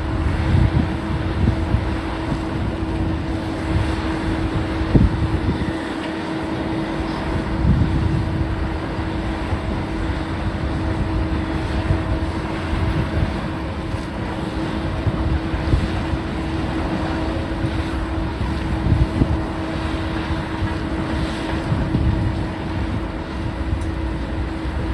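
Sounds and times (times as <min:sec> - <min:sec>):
demolition machinery engine drone: 0:00.0 - 0:24.9.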